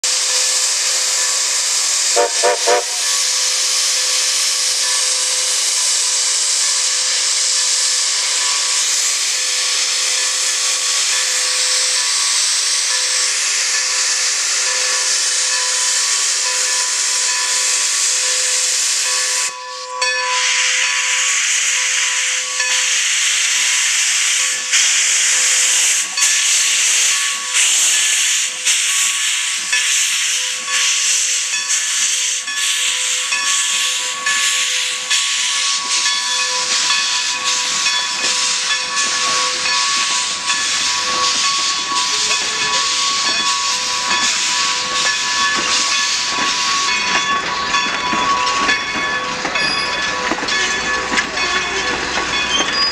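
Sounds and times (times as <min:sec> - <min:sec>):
steam venting in surges: 0:00.0 - 0:19.6, 0:20.4 - 0:52.9
steam locomotive hissing: 0:00.0 - 0:52.9.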